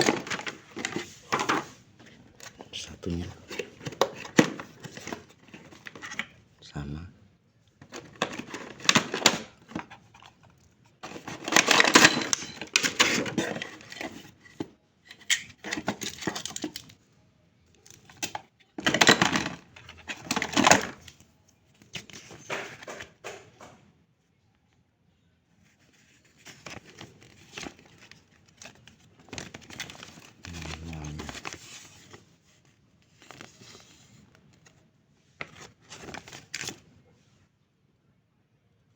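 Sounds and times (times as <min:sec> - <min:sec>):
packaging rustling and crinkling: 0:00.0 - 0:06.4, 0:07.8 - 0:17.0, 0:17.8 - 0:23.1, 0:25.8 - 0:34.8, 0:35.4 - 0:36.9.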